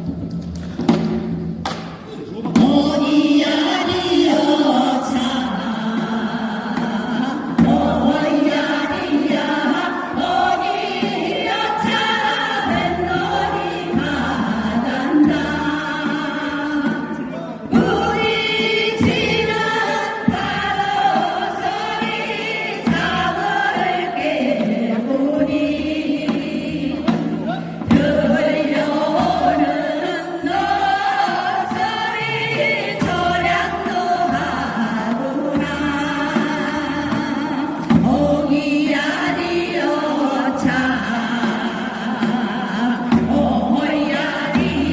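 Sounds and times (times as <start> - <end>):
group of voices singing: 2.0 - 44.9.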